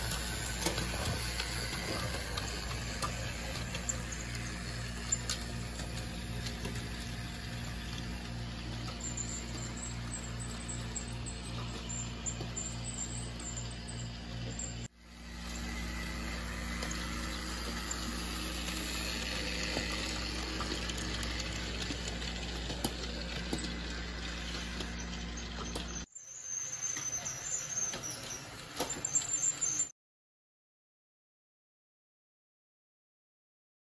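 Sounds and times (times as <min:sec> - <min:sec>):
toy train motor humming: 0:00.0 - 0:29.9.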